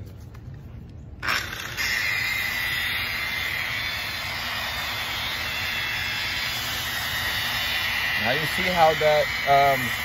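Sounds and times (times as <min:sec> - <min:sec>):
polisher motor whine: 0:01.2 - 0:10.0.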